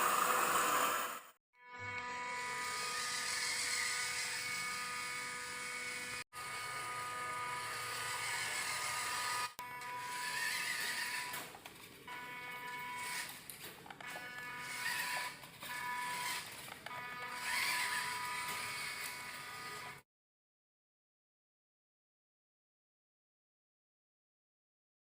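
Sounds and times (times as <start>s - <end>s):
small electric motors whirring: 0.0s - 20.0s.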